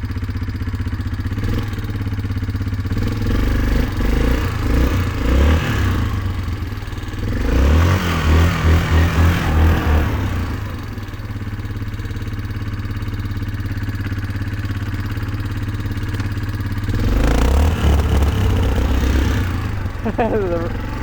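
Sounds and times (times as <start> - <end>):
quad engine running: 0.0 - 21.0.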